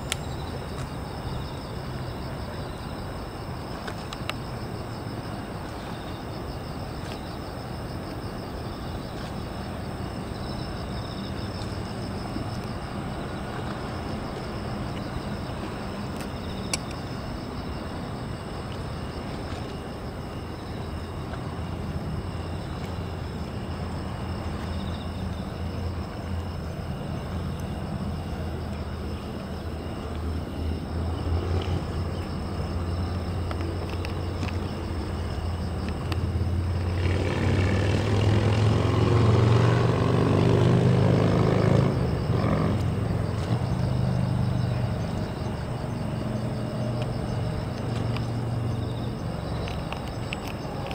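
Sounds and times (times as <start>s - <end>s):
insects chirping faintly: 0.0s - 50.9s.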